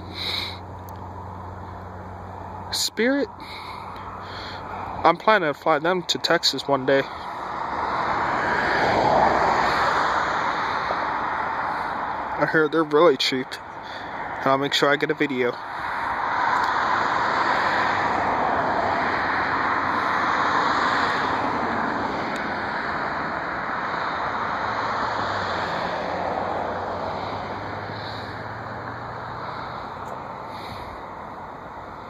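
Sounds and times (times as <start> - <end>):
jet engines passing overhead: 2.6 - 32.0.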